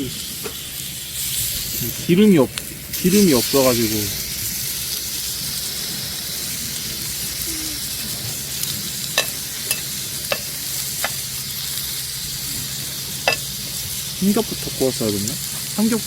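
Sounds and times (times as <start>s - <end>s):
meat sizzling in a hot pan: 0.0s - 16.0s.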